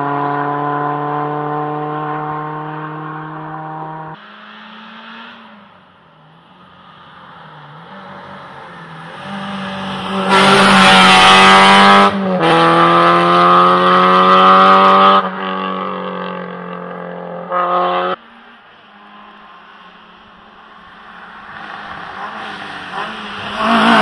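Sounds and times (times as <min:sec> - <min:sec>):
rally car engine at full throttle: 0:00.0 - 0:24.0.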